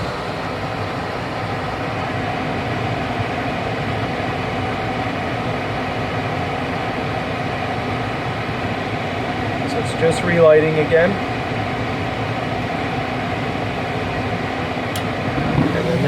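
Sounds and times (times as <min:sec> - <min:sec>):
furnace fan whooshing hum: 0:00.0 - 0:16.0.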